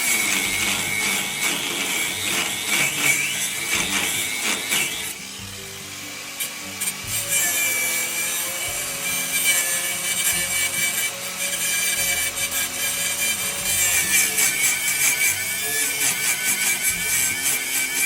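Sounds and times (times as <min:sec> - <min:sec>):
tool scraping or sanding: 0:00.0 - 0:18.0.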